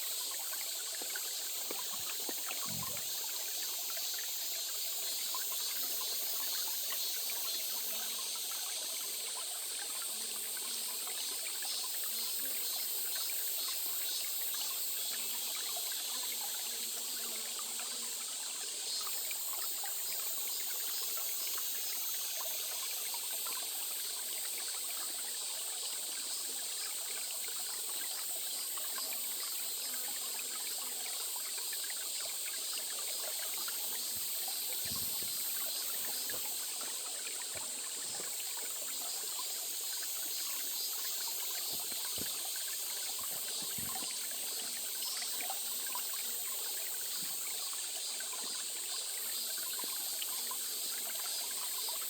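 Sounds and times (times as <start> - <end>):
stream trickling over stones: 0.0 - 52.0.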